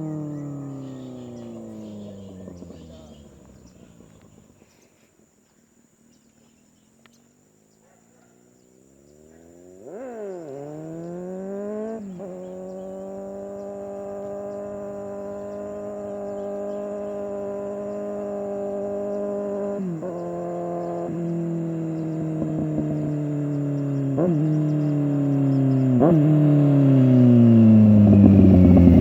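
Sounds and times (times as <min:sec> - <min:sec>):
motorcycle engine revving: 0:00.0 - 0:04.8, 0:07.2 - 0:29.0.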